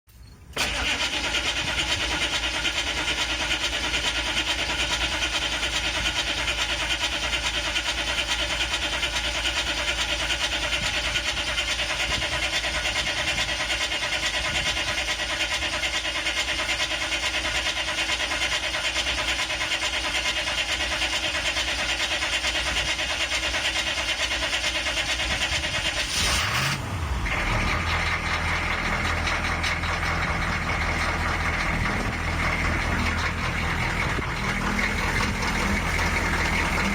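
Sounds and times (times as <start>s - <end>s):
diesel engine cranking: 0.1s - 36.9s
diesel engine revving and idling: 0.5s - 36.9s.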